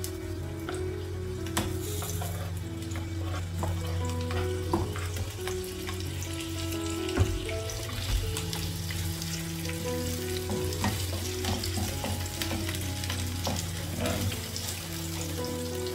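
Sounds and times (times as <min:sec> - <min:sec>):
onion sizzling in hot oil: 0:00.0 - 0:15.9.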